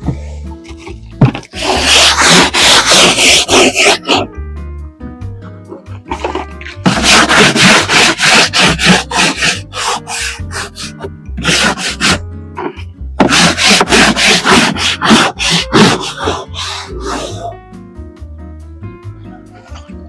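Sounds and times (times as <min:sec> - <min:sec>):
stiff brush scrubbing: 0:00.0 - 0:04.4, 0:05.7 - 0:17.6
soft background music: 0:00.0 - 0:20.0.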